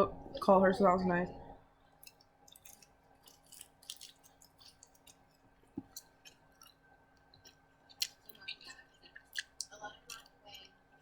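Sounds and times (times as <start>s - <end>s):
faint chewing: 1.8s - 11.0s.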